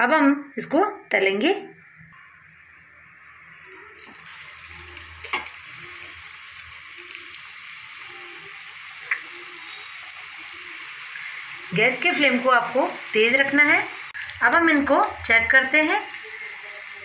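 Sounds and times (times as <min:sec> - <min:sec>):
food deep-frying in hot oil: 0:02.2 - 0:17.0.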